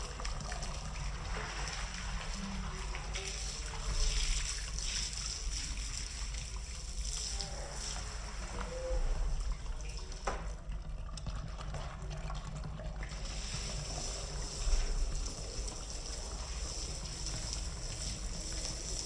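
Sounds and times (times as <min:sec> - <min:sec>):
water running and trickling: 0:00.0 - 0:19.0.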